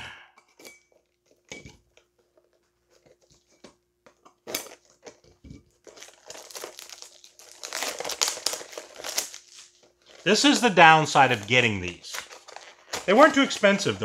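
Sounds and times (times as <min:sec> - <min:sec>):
packaging crinkling and tearing: 0:02.2 - 0:14.0.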